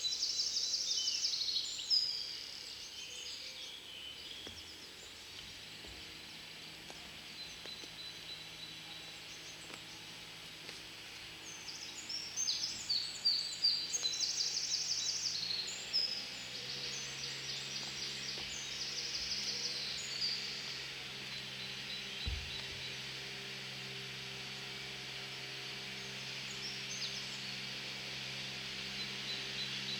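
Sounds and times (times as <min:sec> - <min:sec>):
distant birds chorus: 0:00.0 - 0:29.9.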